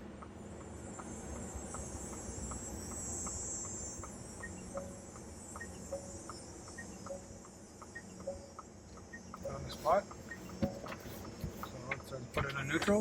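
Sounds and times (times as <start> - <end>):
steady high hiss: 0.4 - 13.0.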